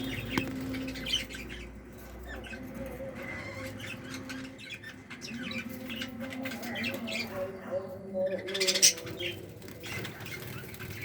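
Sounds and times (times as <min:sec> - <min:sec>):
budgerigars chirping and squawking: 0:00.0 - 0:11.0.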